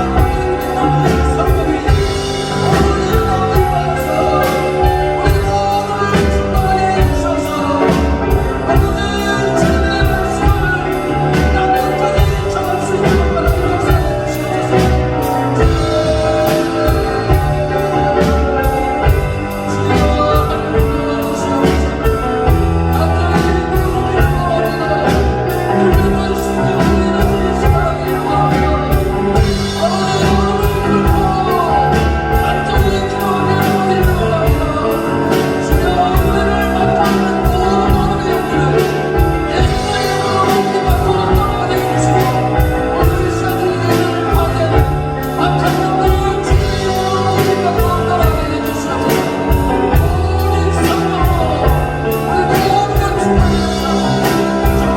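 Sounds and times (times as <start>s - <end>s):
accompanying instruments: 0.0s - 54.9s
drum kit beat: 0.0s - 54.9s
person singing: 0.0s - 54.9s.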